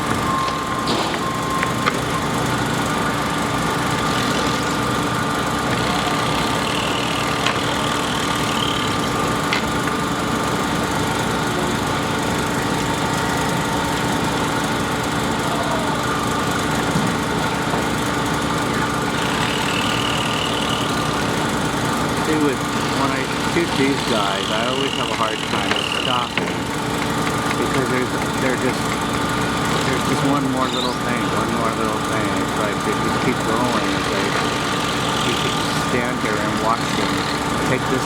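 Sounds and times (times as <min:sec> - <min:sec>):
construction machine engine idling: 0:00.0 - 0:38.0.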